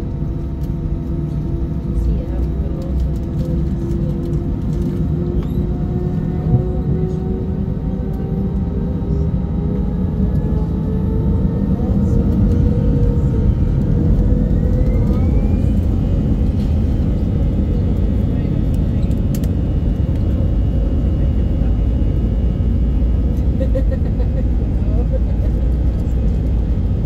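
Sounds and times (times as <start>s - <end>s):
jet engines heard from cabin: 0.0s - 27.0s.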